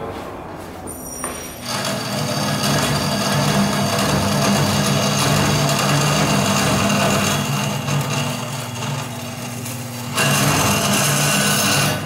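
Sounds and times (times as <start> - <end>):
bandsaw cutting metal tube: 1.4 - 12.0
bandsaw motor hum: 1.6 - 12.0.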